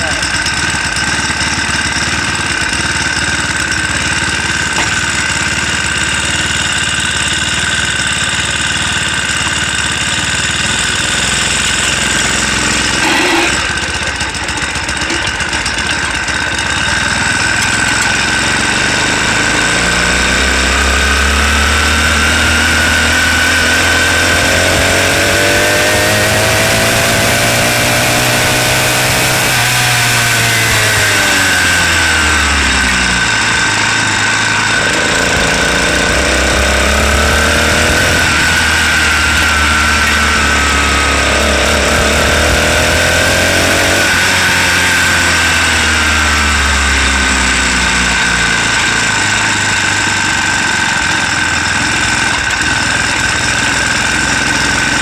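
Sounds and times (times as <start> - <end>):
small motorbike engine running: 0.0 - 55.0.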